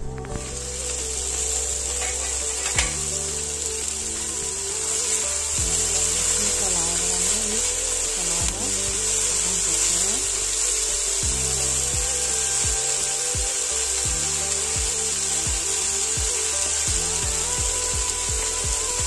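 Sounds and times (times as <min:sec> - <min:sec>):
background music with steady beat: 0:00.0 - 0:19.0
steady high hiss: 0:00.0 - 0:19.0
spatula scraping in a wok: 0:00.4 - 0:19.0.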